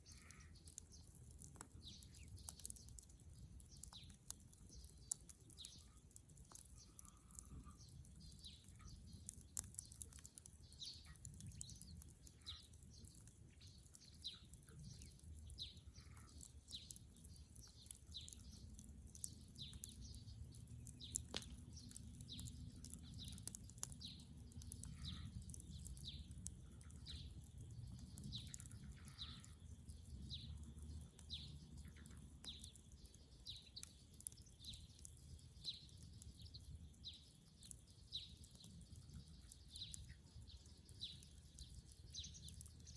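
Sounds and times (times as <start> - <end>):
small bird chirping: 0.0 - 42.9
wood fire crackling and popping: 0.0 - 42.9.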